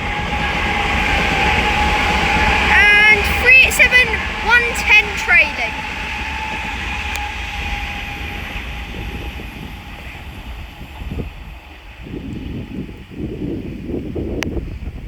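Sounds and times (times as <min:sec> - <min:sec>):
electric train passing: 0:00.0 - 0:14.2.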